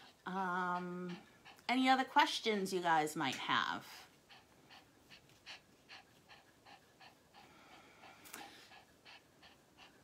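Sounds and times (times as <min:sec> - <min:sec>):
small dog panting: 0:00.0 - 0:02.6, 0:03.6 - 0:10.0.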